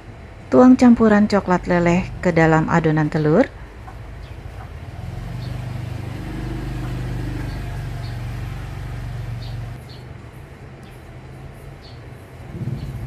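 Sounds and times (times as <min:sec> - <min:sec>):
low motor-like hum: 0:01.2 - 0:13.0.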